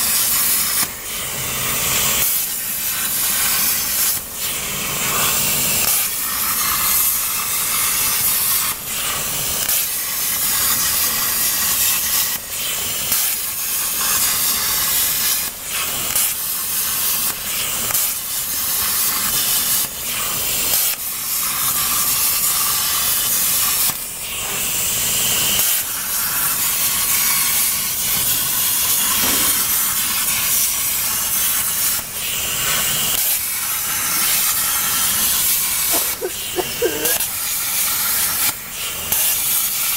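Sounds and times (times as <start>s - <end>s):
plasma cutter hiss: 0.0s - 39.9s.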